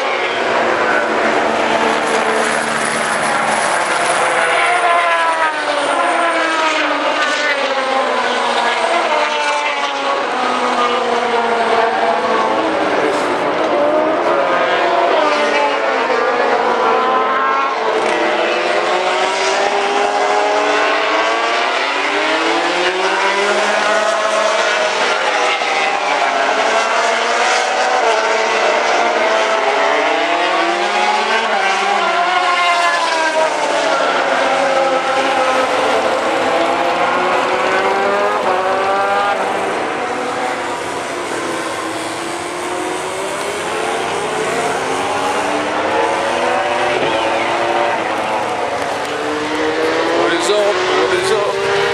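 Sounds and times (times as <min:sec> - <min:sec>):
racing motorcycle engines: 0:00.0 - 0:51.9.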